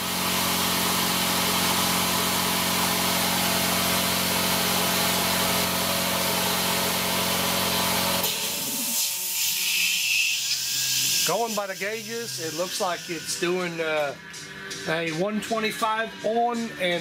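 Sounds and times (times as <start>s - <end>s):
air compressor running: 0.0s - 14.8s.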